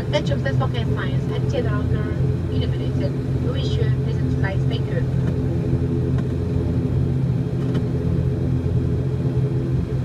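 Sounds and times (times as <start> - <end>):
propeller engine droning in cabin: 0.0 - 10.0.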